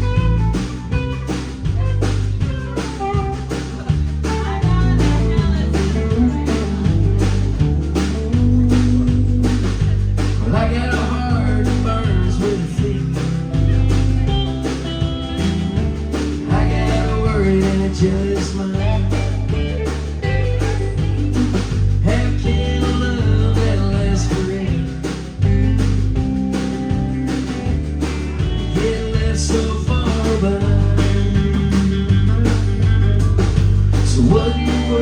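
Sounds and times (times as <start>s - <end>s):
country band playing: 0.0s - 35.0s
steady drum beat: 0.0s - 35.0s.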